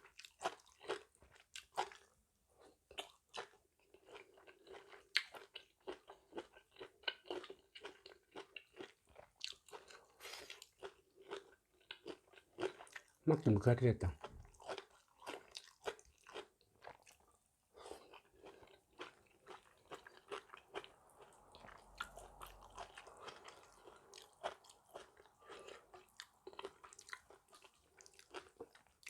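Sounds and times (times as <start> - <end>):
chewing and crunching food: 0.0 - 29.0.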